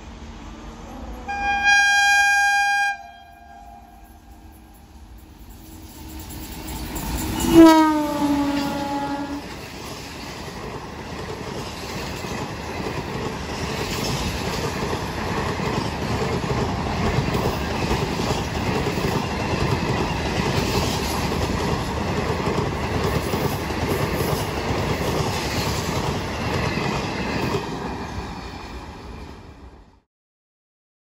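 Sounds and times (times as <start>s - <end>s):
passenger train passing: 0.0s - 30.1s.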